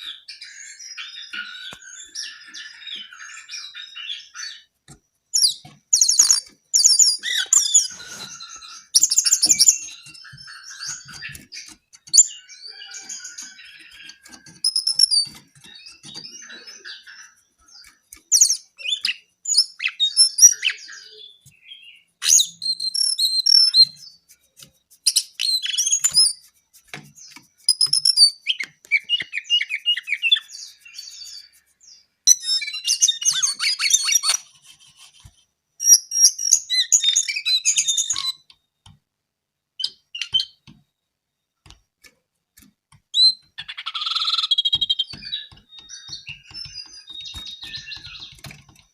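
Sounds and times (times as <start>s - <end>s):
songbird chirping and trilling: 0.0s - 39.0s, 39.8s - 41.8s, 42.6s - 48.9s.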